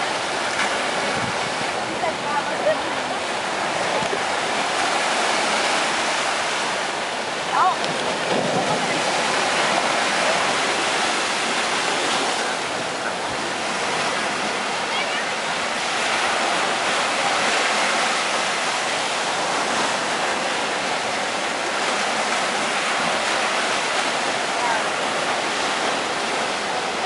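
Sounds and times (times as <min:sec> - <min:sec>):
surf breaking on a sandy beach: 0:00.0 - 0:27.0.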